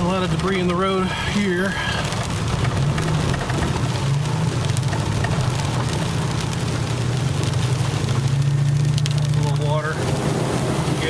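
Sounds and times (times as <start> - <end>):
rain hiss: 0.0 - 11.0
raindrops ticking on truck: 0.0 - 11.0.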